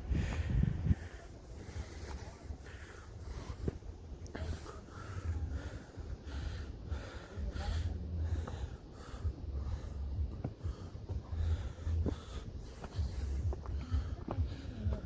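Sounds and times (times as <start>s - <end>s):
person panting hard: 0.0s - 15.0s.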